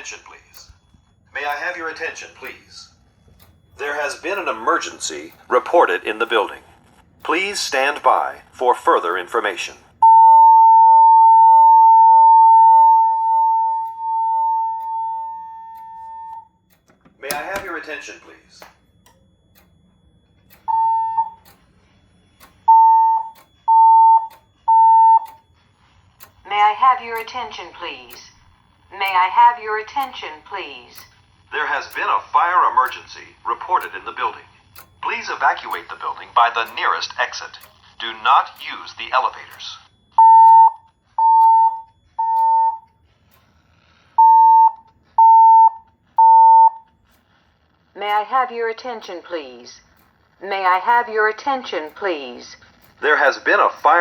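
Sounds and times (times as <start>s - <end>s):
fire alarm beeps: 0.0s - 47.4s.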